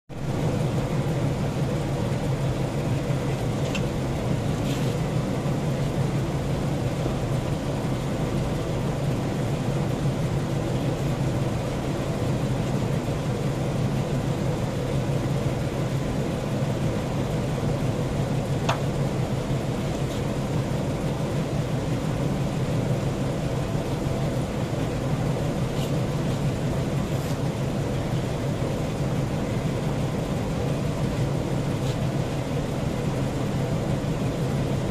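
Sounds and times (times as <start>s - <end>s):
low machine rumble: 0.1s - 34.9s.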